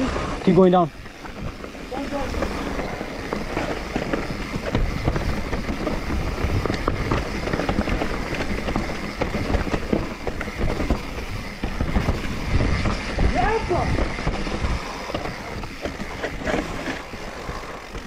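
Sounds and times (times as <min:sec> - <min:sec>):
bike knocking and rattling: 0:00.0 - 0:18.0
bike tyres rumbling on dirt: 0:00.0 - 0:18.0.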